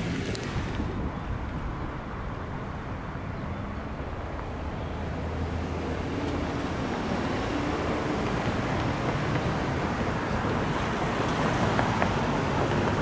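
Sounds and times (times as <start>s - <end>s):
cars driving by: 0.0s - 13.0s.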